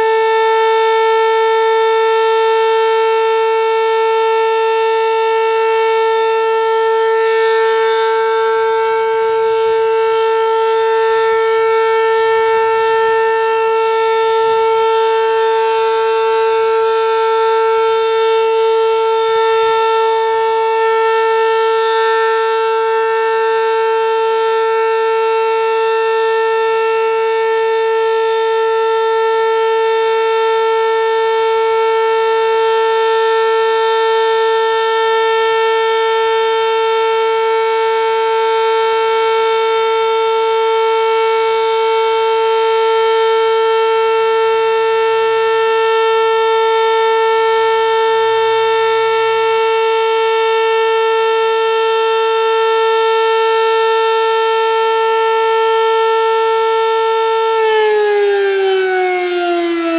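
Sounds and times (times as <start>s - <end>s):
dual-tone warning siren: 0.0s - 59.9s.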